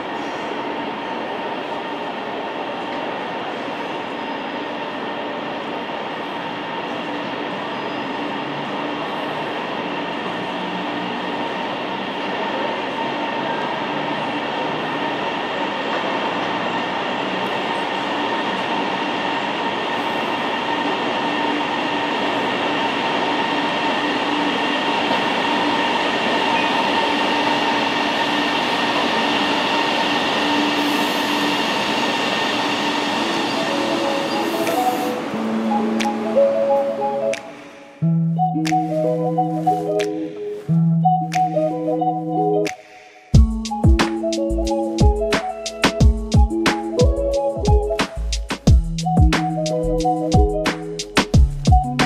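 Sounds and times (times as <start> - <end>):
electric train running hum: 0.0 - 42.6, 43.4 - 52.0
held train tones: 0.0 - 52.0.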